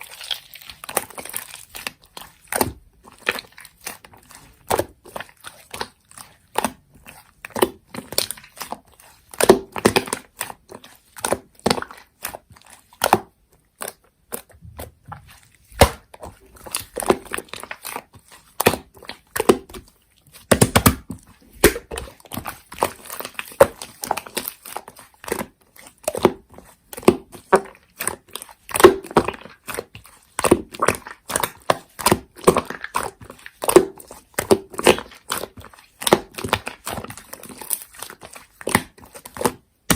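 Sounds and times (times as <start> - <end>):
slime squeezed by hand: 0.0 - 39.9.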